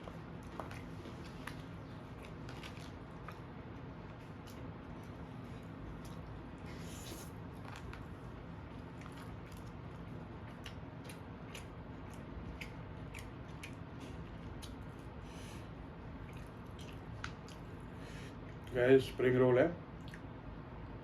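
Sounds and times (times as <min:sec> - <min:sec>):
food crunching while chewed: 0:00.0 - 0:15.4, 0:16.0 - 0:17.9
steady low hum: 0:00.0 - 0:21.0.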